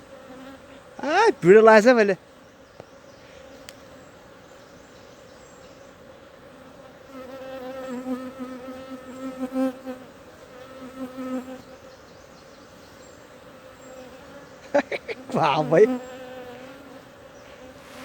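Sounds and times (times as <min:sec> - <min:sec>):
single bee buzzing close by: 0:00.0 - 0:01.0, 0:02.2 - 0:18.0
bee swarm humming: 0:00.0 - 0:18.0.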